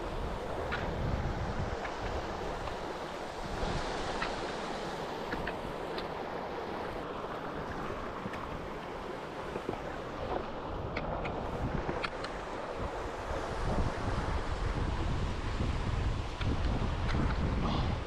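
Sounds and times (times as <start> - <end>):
stream water rushing: 0.0 - 18.0
wind buffeting microphone: 0.0 - 18.0.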